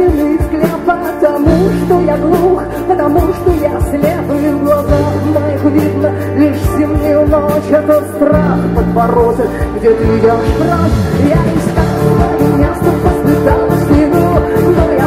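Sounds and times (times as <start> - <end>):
acoustic guitar: 0.0 - 15.0
held bass notes: 0.0 - 15.0
woman singing: 0.0 - 15.0.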